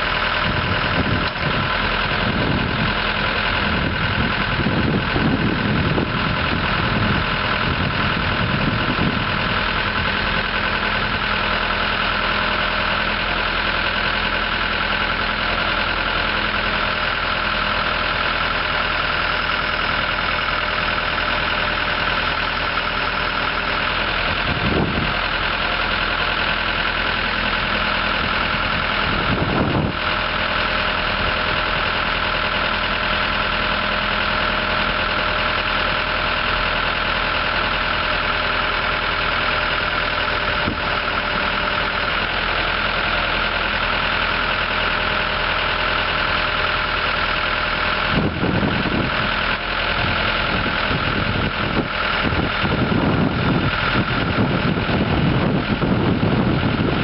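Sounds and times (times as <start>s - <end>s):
diesel engine running: 0.0s - 57.0s
low engine surges: 0.0s - 57.0s.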